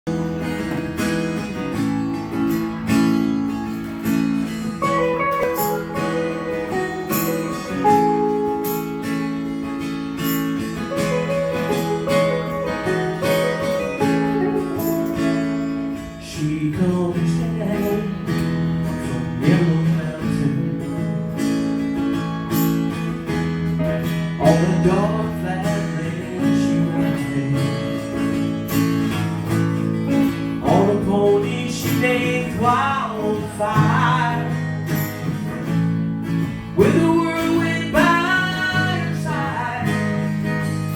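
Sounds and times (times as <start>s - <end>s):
acoustic guitar strumming and picking: 0.0s - 40.9s.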